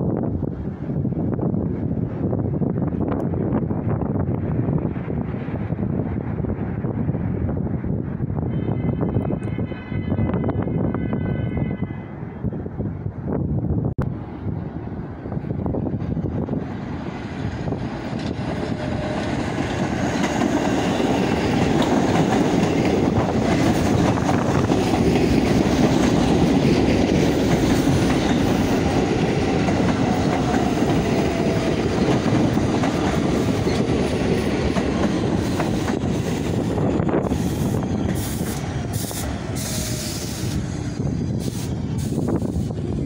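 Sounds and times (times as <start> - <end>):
subway train rumble and wheel noise: 0.0 - 43.0.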